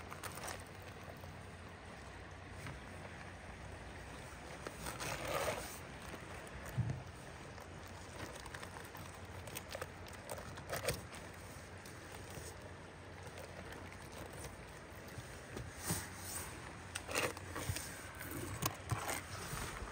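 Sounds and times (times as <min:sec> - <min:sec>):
low steady rumble: 0:00.0 - 0:19.9
soft handling noises: 0:00.0 - 0:19.9.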